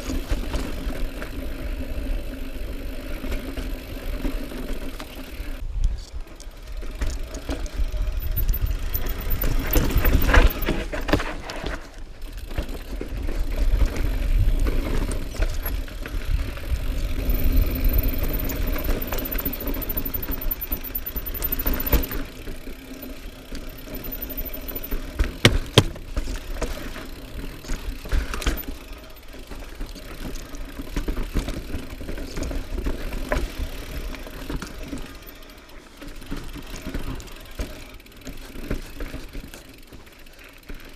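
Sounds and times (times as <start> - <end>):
bike rattling and clattering: 0.0 - 5.6, 6.2 - 40.9
bike tyres rumbling over stone: 0.0 - 5.6, 6.5 - 40.9.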